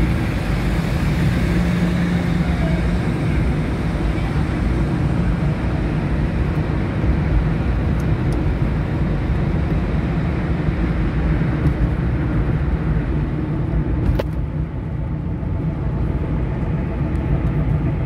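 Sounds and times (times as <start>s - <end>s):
car engine and tyre drone: 0.0s - 18.0s.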